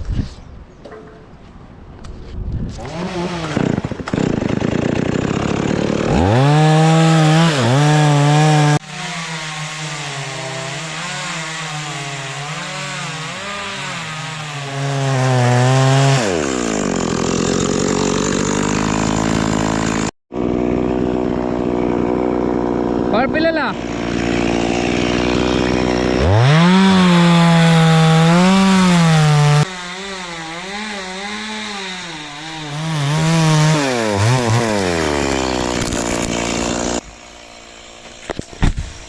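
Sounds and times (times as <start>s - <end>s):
chainsaw cutting wood: 2.7s - 39.0s.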